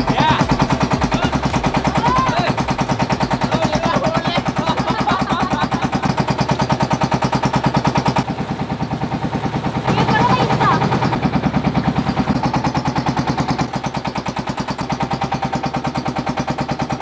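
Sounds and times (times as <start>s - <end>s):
boat engine putting: 0.0s - 17.0s
hull rushing through water: 0.0s - 17.0s.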